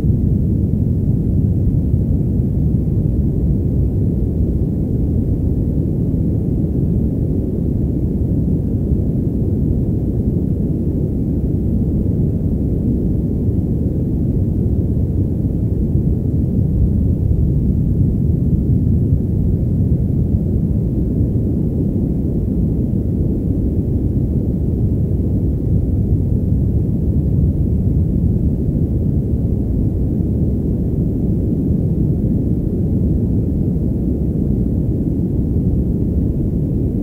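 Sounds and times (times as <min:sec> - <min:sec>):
muffled deep white noise: 0:00.0 - 0:37.0.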